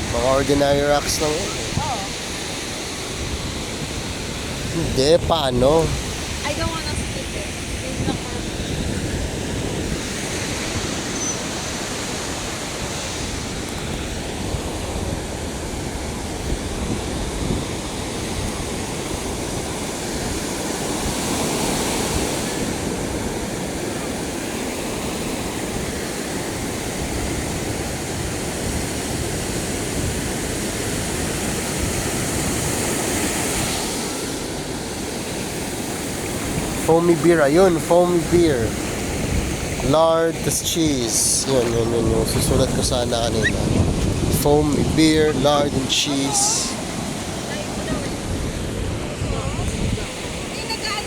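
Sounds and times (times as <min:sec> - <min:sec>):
surf washing onto beach: 0:00.0 - 0:51.0
wind rumbling on microphone: 0:00.0 - 0:51.0.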